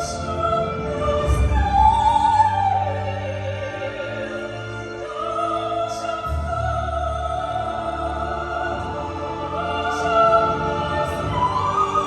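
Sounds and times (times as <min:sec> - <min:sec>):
operatic chorus singing: 0:00.0 - 0:12.0.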